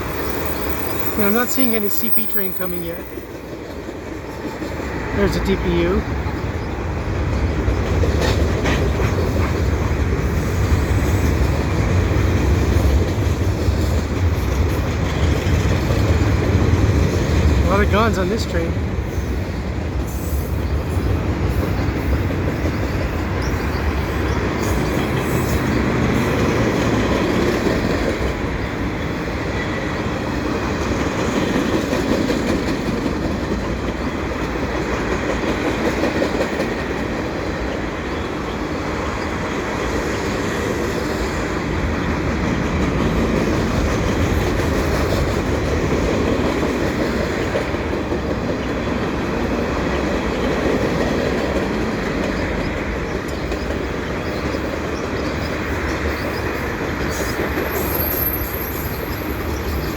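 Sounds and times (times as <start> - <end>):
freight train cars rolling past: 0.0 - 59.9.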